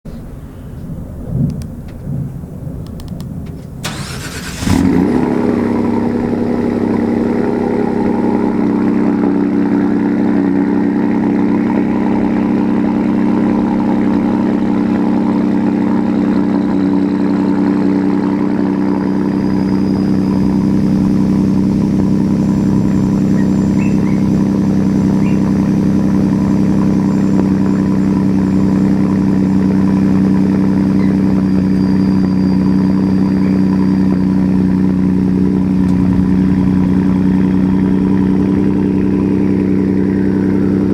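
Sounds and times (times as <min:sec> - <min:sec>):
car engine cold start and idle: 0:02.6 - 0:40.9.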